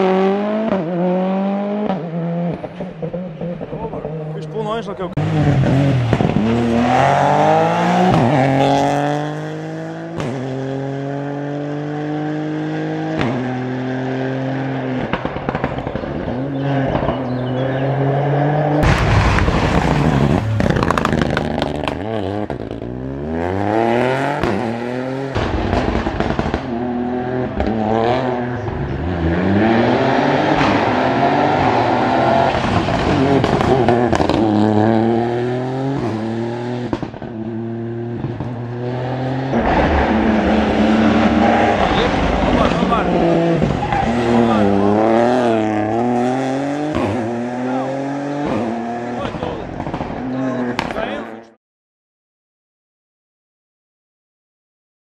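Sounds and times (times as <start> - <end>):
rally car engines revving: 0.0 - 51.6.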